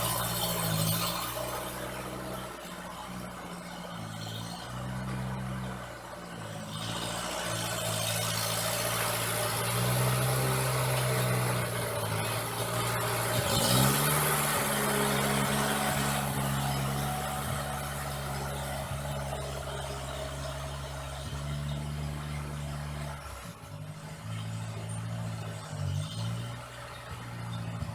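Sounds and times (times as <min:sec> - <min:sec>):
engine idling and revving: 0:00.0 - 0:27.9.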